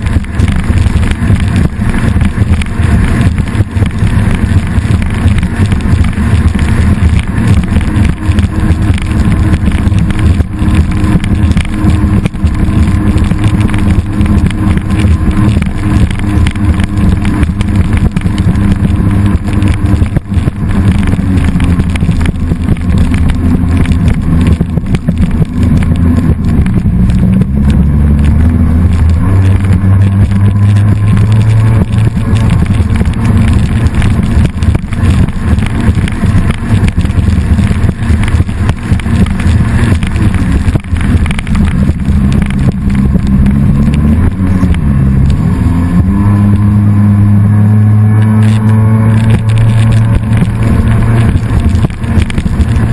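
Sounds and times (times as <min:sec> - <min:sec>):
engine running under power: 0:00.0 - 0:52.9.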